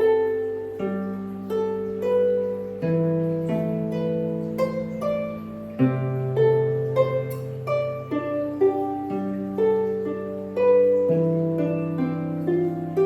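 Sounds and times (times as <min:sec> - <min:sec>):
harp plucked notes: 0:00.0 - 0:13.0.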